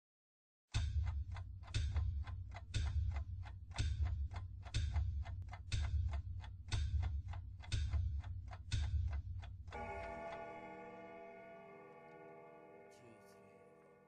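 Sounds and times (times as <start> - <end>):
countdown ticks: 0.7 - 14.0.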